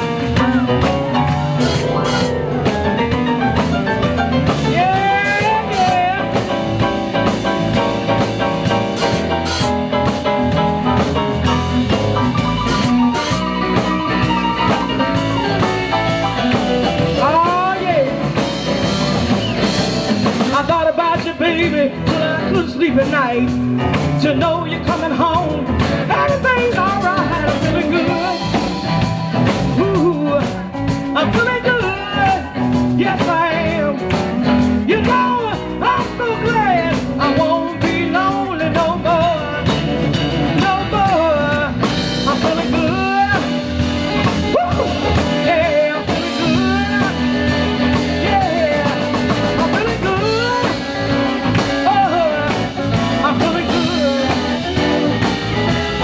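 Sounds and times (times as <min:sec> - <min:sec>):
blues band playing: 0:00.0 - 0:56.0.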